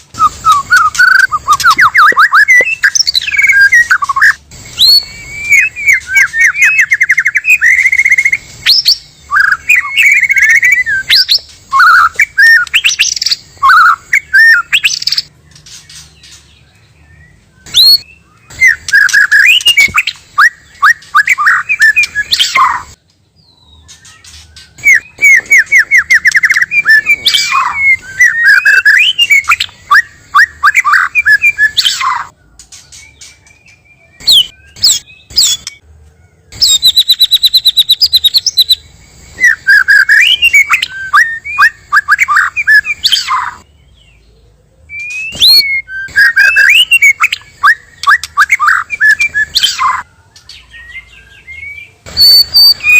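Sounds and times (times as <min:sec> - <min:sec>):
birds singing trills and whistles: 0:00.0 - 0:52.9.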